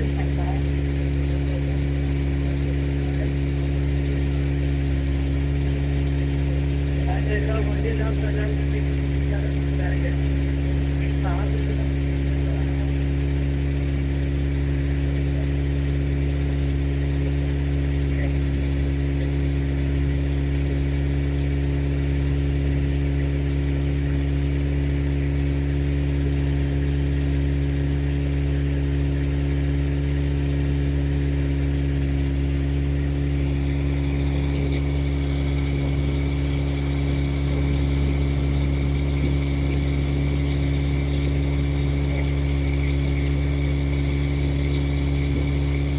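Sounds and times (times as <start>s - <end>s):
motorboat engine running: 0.0s - 45.9s.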